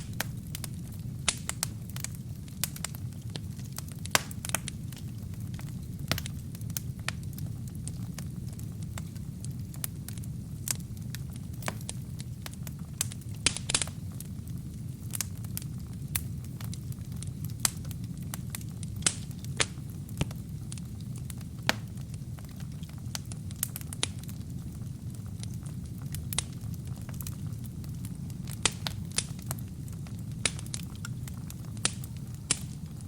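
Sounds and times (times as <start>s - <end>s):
burning logs crackling and popping: 0.0s - 33.0s
fire flames rumbling: 0.0s - 33.0s.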